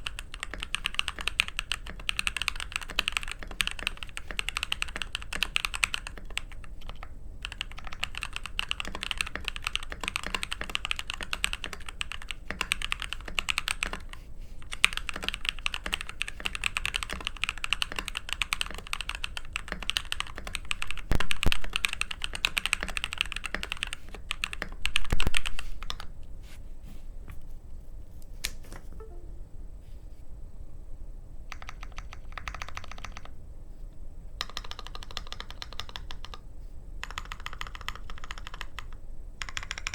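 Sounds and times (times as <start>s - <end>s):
mechanical keyboard typing: 0.0s - 26.1s, 31.5s - 33.3s, 34.4s - 36.4s, 37.0s - 39.9s.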